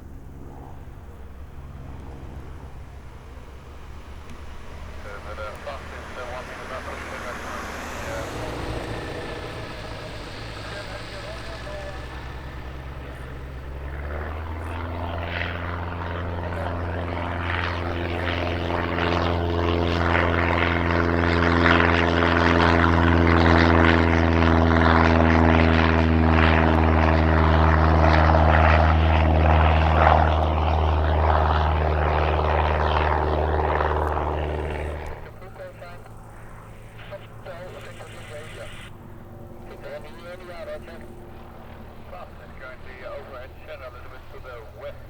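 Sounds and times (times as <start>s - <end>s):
propeller aircraft engine drone: 0.0s - 45.0s.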